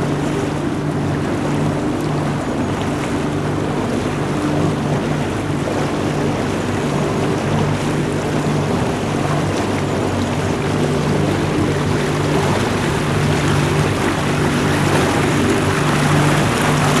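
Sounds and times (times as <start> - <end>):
boat engine humming: 0.0 - 17.0
water rushing: 0.0 - 17.0
wind: 0.0 - 17.0.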